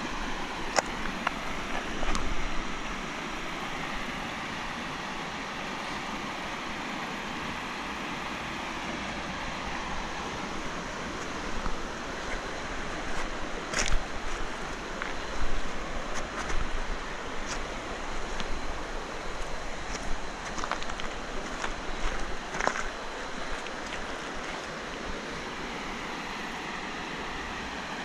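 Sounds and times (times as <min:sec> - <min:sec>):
river water rushing: 0:00.0 - 0:28.0
wind: 0:00.0 - 0:28.0.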